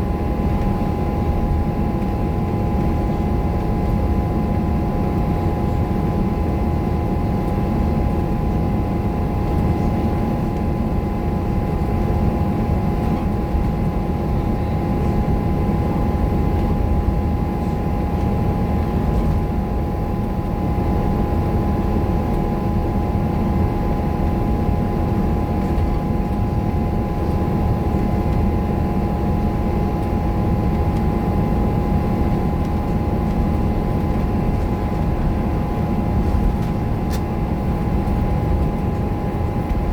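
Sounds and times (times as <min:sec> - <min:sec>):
steady engine whine: 0:00.0 - 0:39.9.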